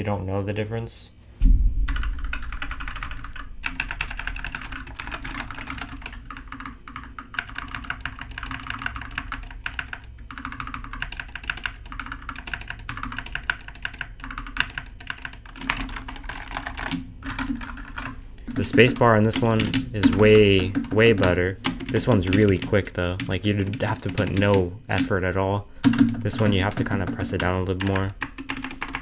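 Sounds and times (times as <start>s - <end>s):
fast typing on mechanical keyboard: 1.9s - 29.0s.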